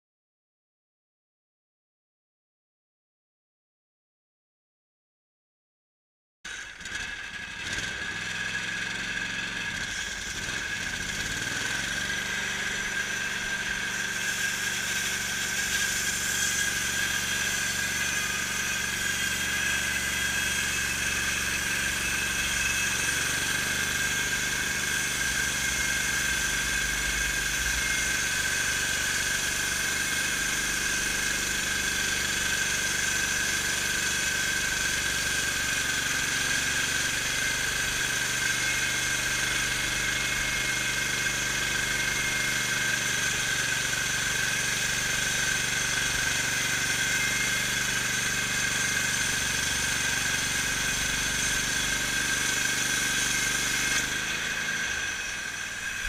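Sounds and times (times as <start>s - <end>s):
lawn mower engine under load: 6.5s - 56.0s
saw blade cutting wood: 6.5s - 56.0s.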